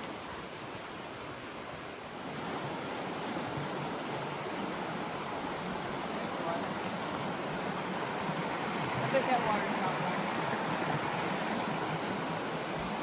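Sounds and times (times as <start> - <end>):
flowing creek: 0.0 - 13.0.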